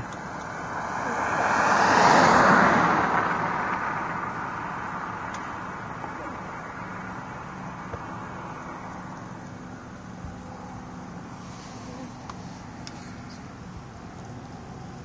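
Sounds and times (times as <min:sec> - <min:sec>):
low engine hum: 0:00.0 - 0:15.0
passing road vehicle: 0:00.0 - 0:15.0.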